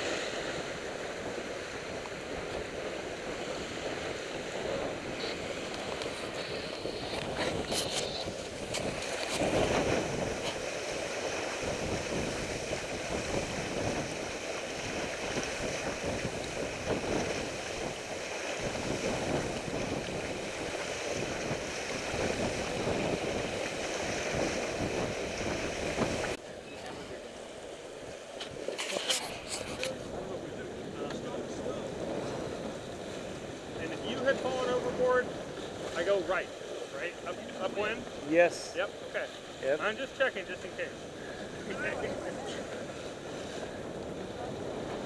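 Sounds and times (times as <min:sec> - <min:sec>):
water splashing along a hull: 0:00.0 - 0:45.0
wind on the microphone: 0:00.0 - 0:45.0.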